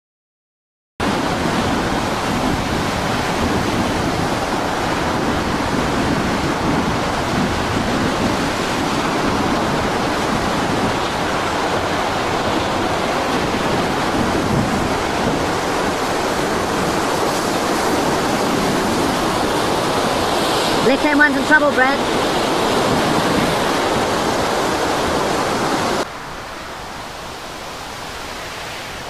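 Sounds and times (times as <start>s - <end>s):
heavy surf breaking: 1.0s - 29.0s.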